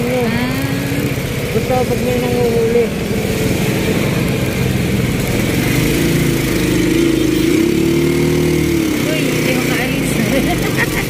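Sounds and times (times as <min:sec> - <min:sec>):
small motorcycle engine running: 0:00.0 - 0:11.0
wind and road noise: 0:00.0 - 0:11.0.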